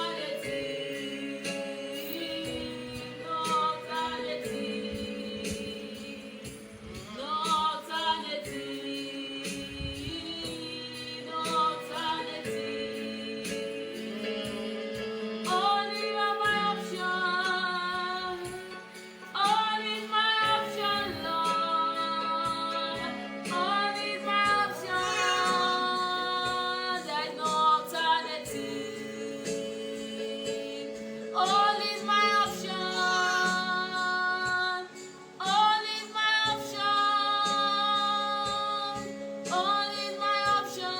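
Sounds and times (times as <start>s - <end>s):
woman singing with vibrato: 0.0s - 40.9s.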